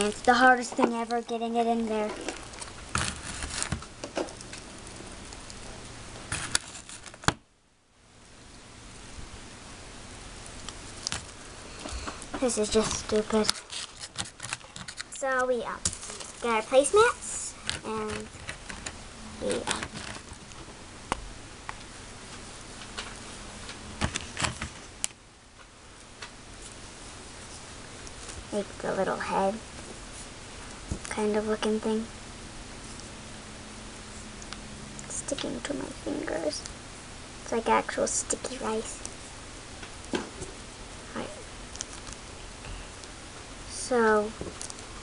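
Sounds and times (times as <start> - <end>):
steady low hiss: 0.0 - 45.0.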